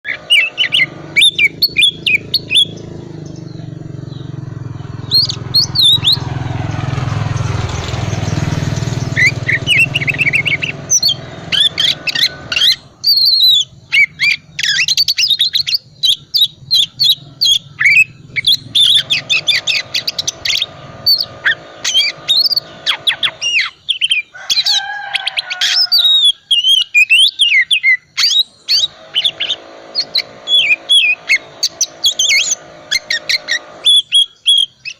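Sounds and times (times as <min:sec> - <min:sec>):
bird singing: 0:00.0 - 0:34.9.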